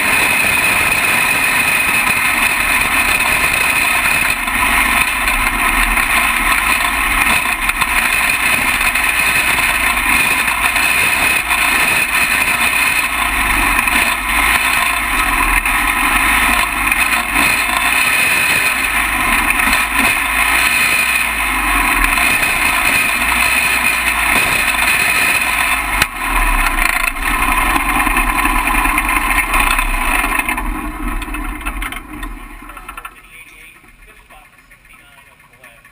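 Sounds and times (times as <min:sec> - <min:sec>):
kart engine running: 0:00.0 - 0:35.9.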